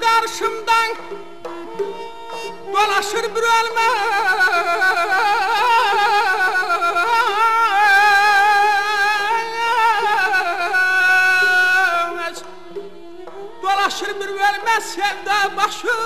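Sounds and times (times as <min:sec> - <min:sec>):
man singing melismatic melody: 0:00.0 - 0:01.2, 0:02.4 - 0:12.5, 0:13.6 - 0:16.0
saz accompaniment: 0:00.0 - 0:16.0.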